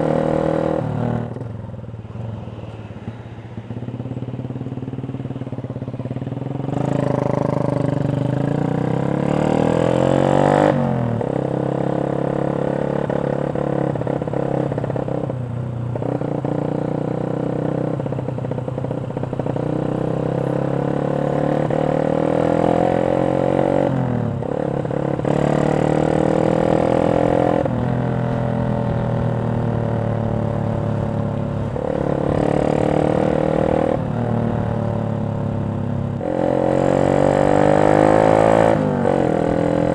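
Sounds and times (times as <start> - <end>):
motorcycle engine accelerating: 3.6 - 39.9.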